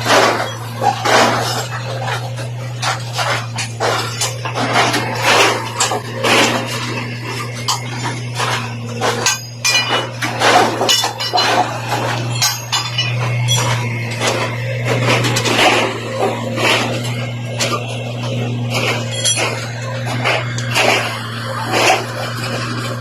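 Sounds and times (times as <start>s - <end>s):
low machine hum: 0.0s - 23.0s
metal clanks: 0.0s - 23.0s.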